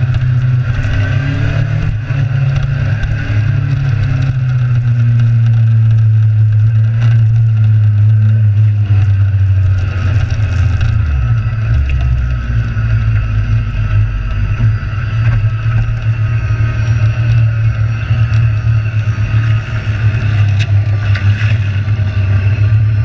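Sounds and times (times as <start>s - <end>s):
motorcycle engine rumbling: 0.0s - 23.0s.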